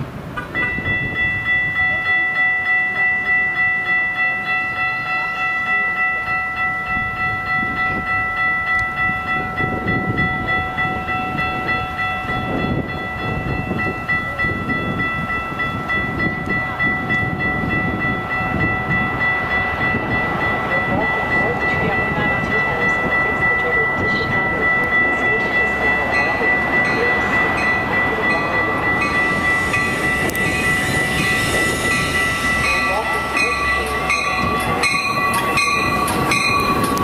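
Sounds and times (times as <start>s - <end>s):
crossing warning bell ringing: 0.0s - 37.0s
train wheels rumbling on rails: 0.0s - 37.0s.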